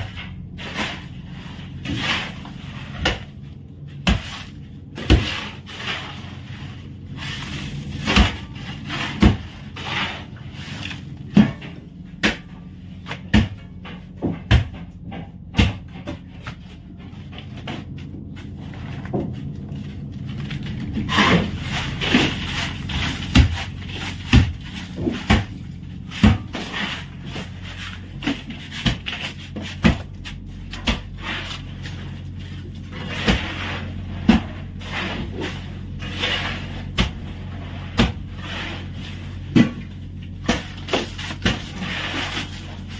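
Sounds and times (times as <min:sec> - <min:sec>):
shovels scraping crushed ice: 0:00.0 - 0:03.3, 0:04.1 - 0:12.6, 0:19.8 - 0:42.9
low hum: 0:00.0 - 0:42.9.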